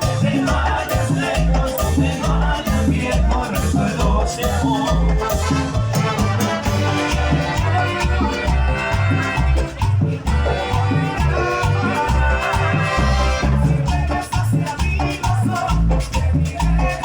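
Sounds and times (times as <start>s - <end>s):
latin dance band playing: 0.0s - 17.0s
maracas: 0.0s - 17.0s
repeating bass line: 0.0s - 17.0s.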